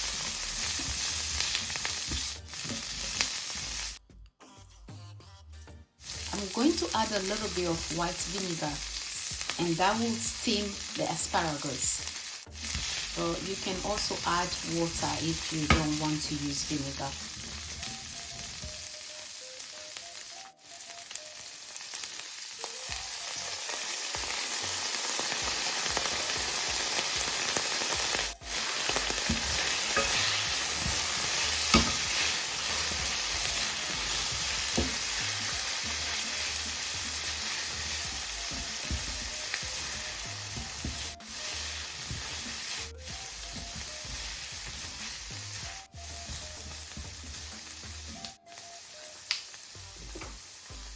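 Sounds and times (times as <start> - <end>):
vegetables sizzling in a pan: 0.0 - 4.0, 6.0 - 50.9.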